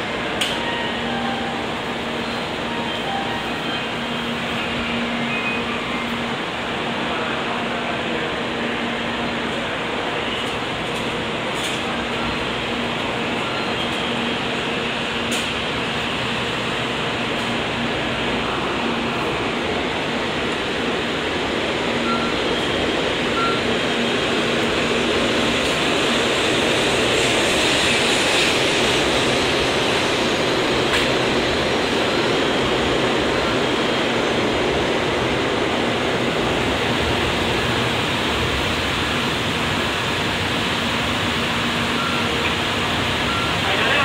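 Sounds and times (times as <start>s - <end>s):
train rushing rumble: 0.0s - 44.0s.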